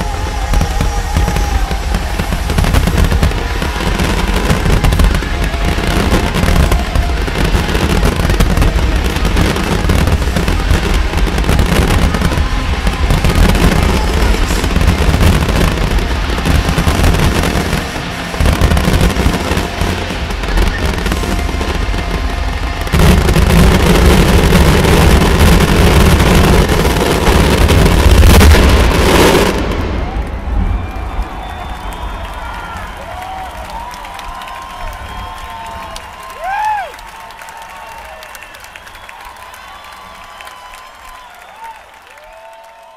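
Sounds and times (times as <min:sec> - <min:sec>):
fireworks popping and booming: 0:00.0 - 0:41.2
music soundtrack: 0:00.0 - 0:42.0.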